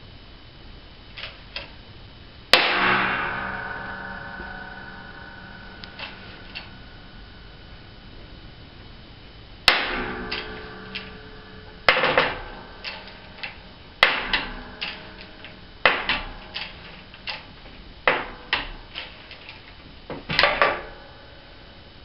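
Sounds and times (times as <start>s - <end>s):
loud metallic bangs: 2.5s - 21.9s.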